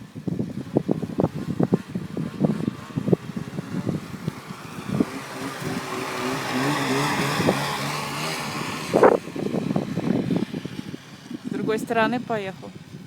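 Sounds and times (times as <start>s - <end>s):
snowmobile engine revving: 0.0s - 12.9s.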